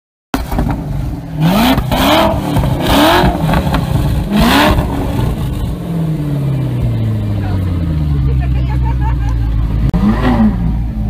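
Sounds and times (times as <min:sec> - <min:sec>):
car engine idling: 0:00.4 - 0:11.0
car engine revving: 0:00.4 - 0:11.0.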